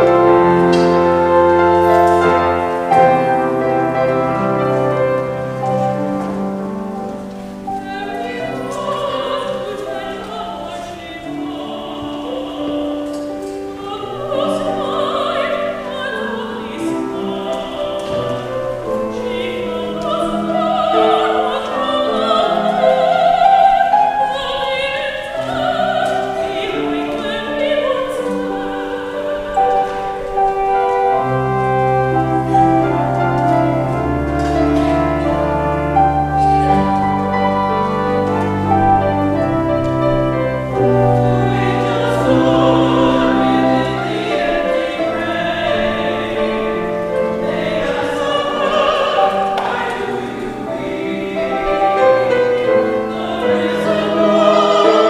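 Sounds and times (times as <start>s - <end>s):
church choir singing: 0.0s - 55.0s
organ and piano accompaniment: 0.0s - 55.0s.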